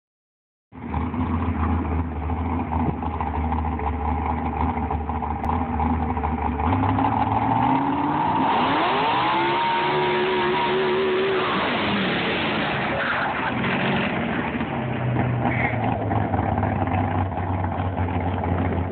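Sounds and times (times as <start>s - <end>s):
drag car engine revving: 0.8s - 18.9s.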